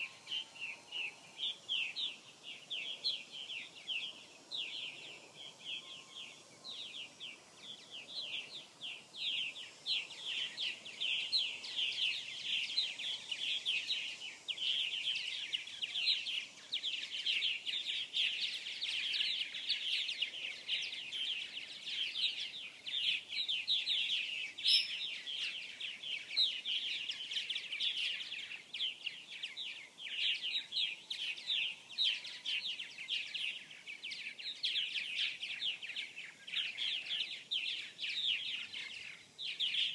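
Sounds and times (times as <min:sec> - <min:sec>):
birds chirping and chattering: 0:00.0 - 0:39.9.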